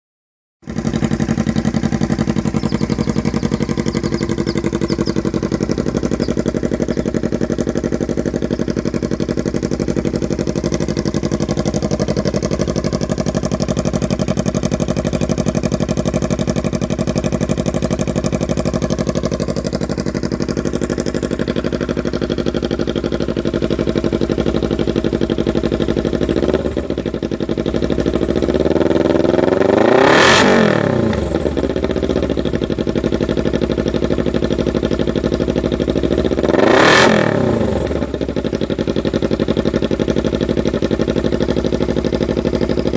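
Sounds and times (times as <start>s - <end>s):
motorcycle engine idling: 0.6s - 42.9s
motorcycle engine revving: 0.6s - 42.9s.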